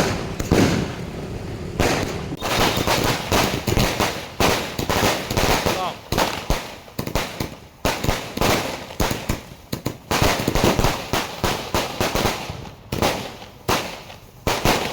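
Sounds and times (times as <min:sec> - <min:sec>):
firework bangs with crackle: 0:00.0 - 0:14.9.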